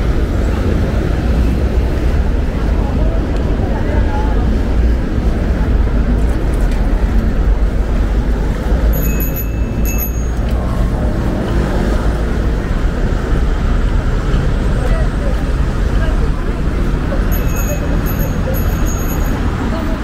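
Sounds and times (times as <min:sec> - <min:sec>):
passing cars and buses: 0:00.0 - 0:20.0.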